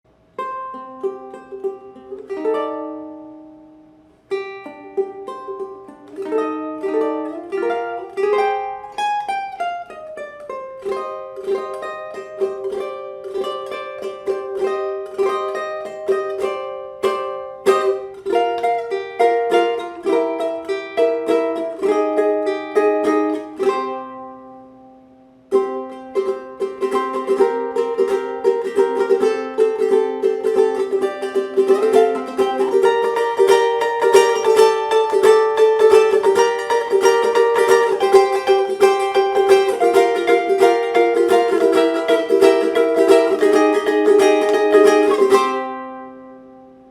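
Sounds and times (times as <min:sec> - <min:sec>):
ukulele playing melody and chords: 0:00.1 - 0:46.9.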